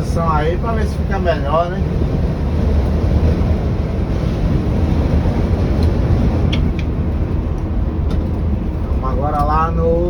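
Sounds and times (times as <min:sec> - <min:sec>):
diesel engine rumble: 0:00.0 - 0:10.0
road noise: 0:00.0 - 0:10.0.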